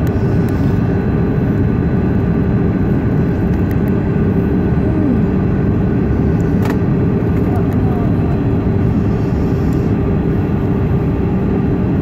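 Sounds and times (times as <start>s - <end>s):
constant low hum: 0.0s - 12.0s
vehicle roar in motion: 0.0s - 12.0s.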